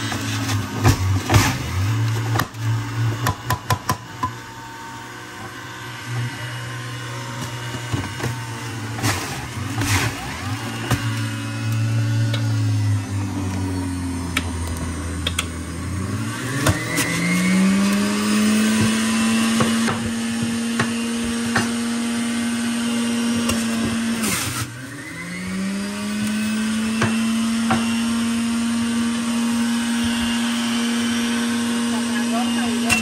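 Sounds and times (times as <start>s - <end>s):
juicer motor spinning: 0.0s - 33.0s.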